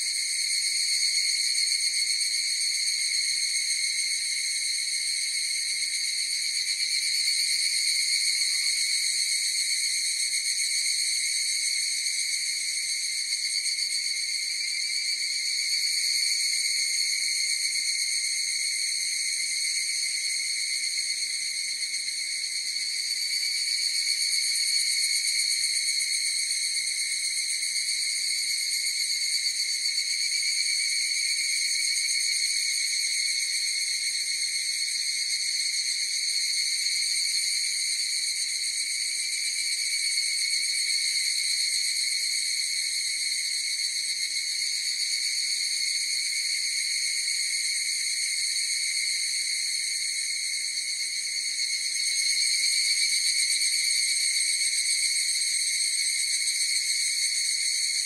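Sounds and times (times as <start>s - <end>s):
cicadas singing: 5.7s - 58.0s.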